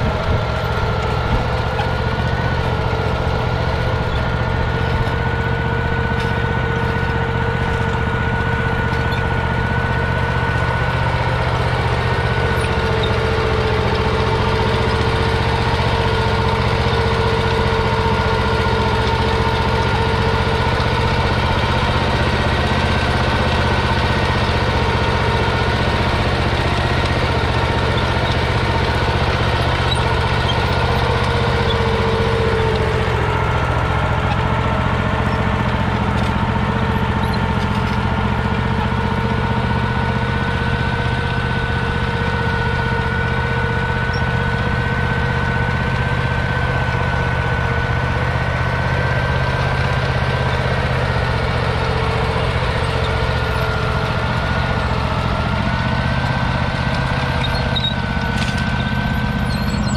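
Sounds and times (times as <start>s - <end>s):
engine running under load: 0.0s - 59.9s.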